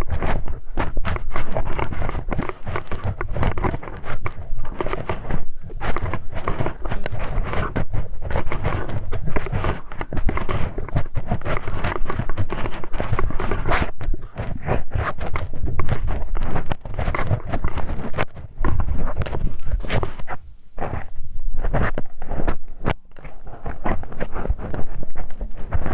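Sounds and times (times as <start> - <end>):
tool scraping microphone ear: 0.0 - 25.9.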